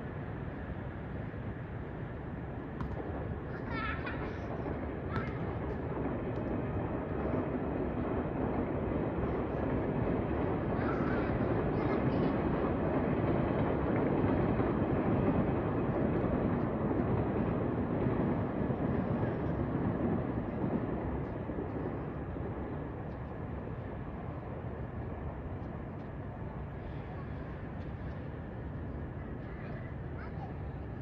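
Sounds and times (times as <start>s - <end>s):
train rumbling on tracks: 0.0s - 31.0s.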